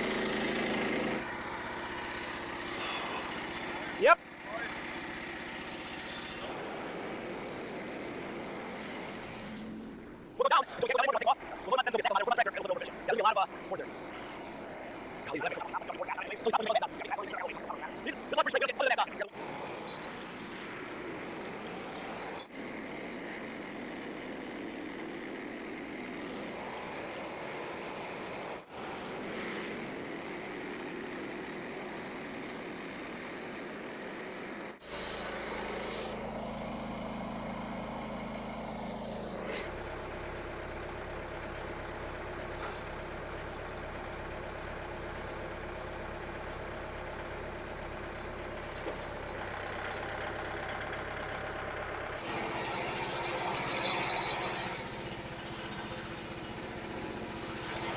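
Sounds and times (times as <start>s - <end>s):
engine running: 0.0s - 57.9s.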